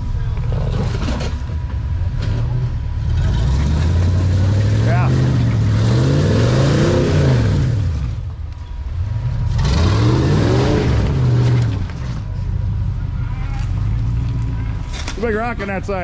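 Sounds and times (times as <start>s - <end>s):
vehicle engine revving: 0.0s - 8.3s, 8.9s - 15.1s.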